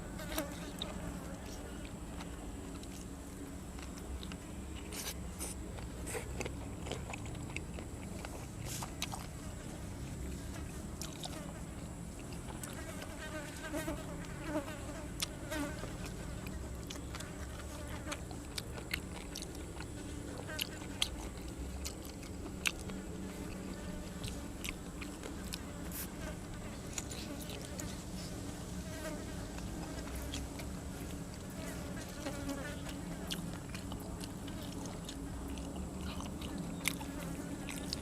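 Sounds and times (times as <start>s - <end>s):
person chewing crunchy food: 1.8s - 13.0s, 15.2s - 27.8s, 29.5s - 31.5s, 32.3s - 38.0s.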